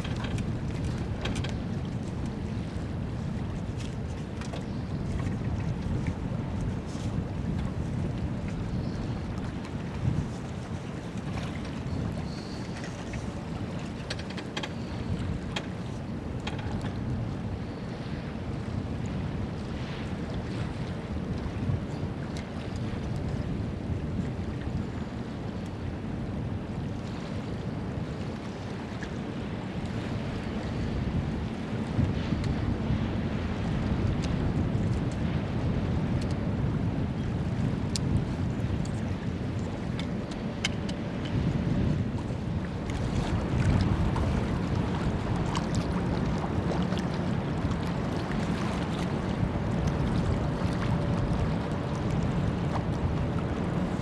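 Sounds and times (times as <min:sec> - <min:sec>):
ship low rumble: 0:00.0 - 0:54.0
wind buffeting microphone: 0:00.0 - 0:54.0.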